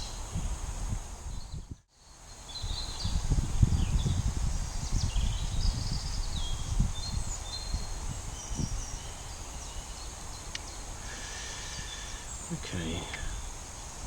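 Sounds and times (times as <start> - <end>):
wind buffeting microphone: 0.0 - 1.8, 2.4 - 14.0
small birds chirping: 1.3 - 14.0.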